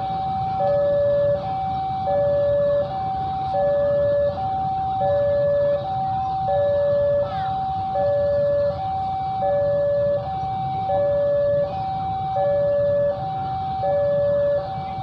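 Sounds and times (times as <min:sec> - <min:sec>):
diesel locomotive engine rumble: 0:00.0 - 0:15.0
two-tone electronic alarm: 0:00.0 - 0:15.0.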